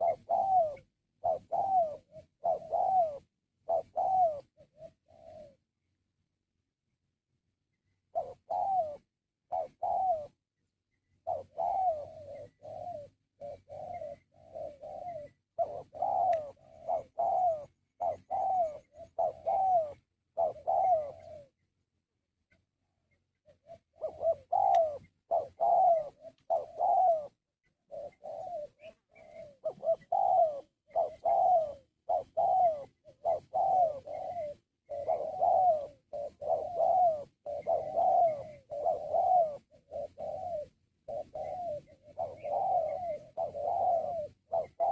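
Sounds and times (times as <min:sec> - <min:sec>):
dove cooing: 0:00.0 - 0:05.7, 0:07.9 - 0:21.7, 0:22.8 - 0:44.9.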